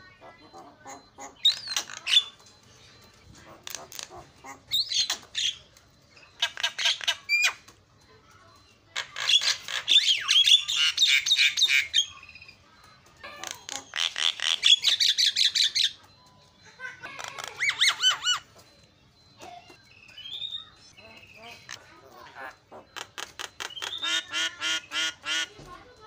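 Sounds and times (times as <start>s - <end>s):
bird harsh chattering and squawking: 0.0s - 2.4s, 3.4s - 7.7s, 8.9s - 12.6s, 13.2s - 16.0s, 16.7s - 18.6s, 19.4s - 25.6s.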